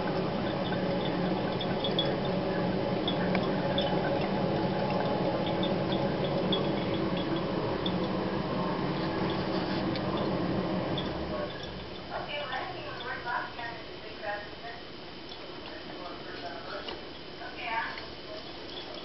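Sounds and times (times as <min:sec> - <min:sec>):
small water drips: 0:00.0 - 0:13.7, 0:15.2 - 0:19.0
water trickling through a filter: 0:00.0 - 0:14.0, 0:14.8 - 0:19.0.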